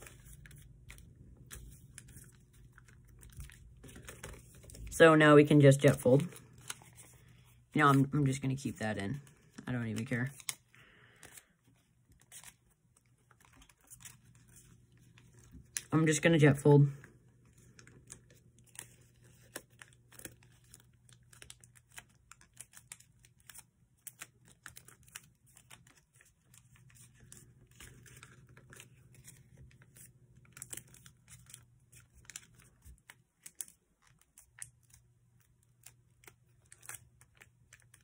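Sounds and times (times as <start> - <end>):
paper rustling and crinkling: 0.0 - 38.0.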